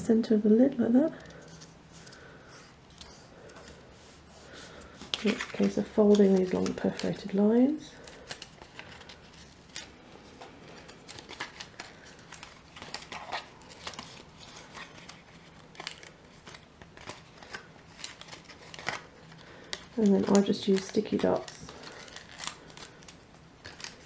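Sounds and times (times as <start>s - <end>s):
cardstock crackling as folded: 1.1s - 24.0s.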